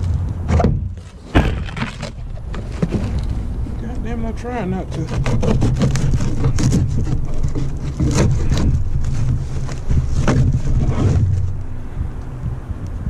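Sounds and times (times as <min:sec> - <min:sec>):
steady low rumble: 0:00.0 - 0:13.0
packaging rustling and scraping: 0:00.9 - 0:11.6.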